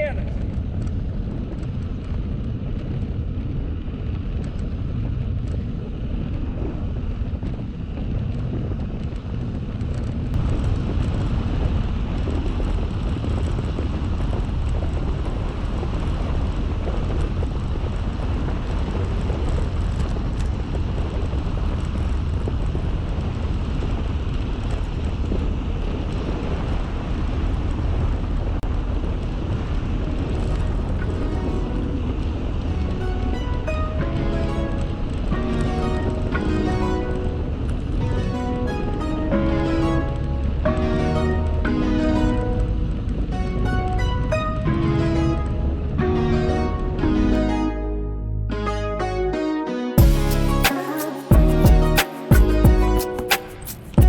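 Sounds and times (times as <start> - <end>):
wind rushing on microphone: 0.0 - 47.4.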